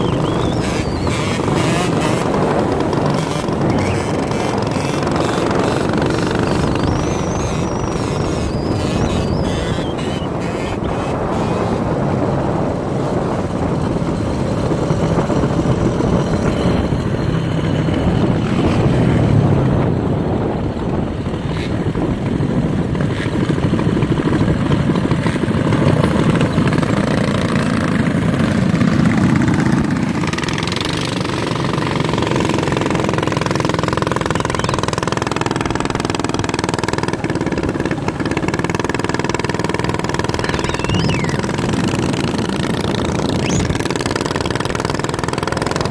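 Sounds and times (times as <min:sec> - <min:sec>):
small engine running: 0:00.0 - 0:20.5, 0:21.1 - 0:45.9.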